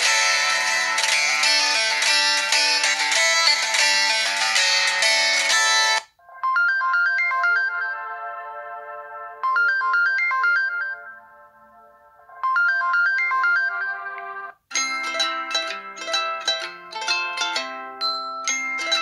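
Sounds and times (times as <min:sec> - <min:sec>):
phone ringtone melody: 0:00.0 - 0:19.0.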